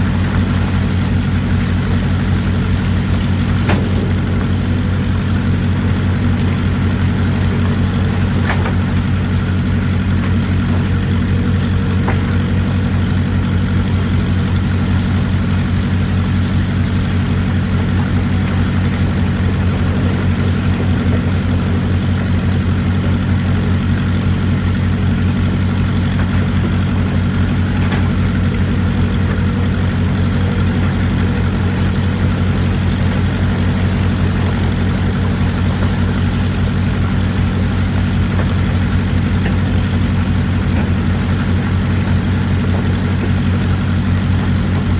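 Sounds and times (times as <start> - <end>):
excavator diesel engines running: 0.0 - 44.9
running water hiss: 0.0 - 44.9.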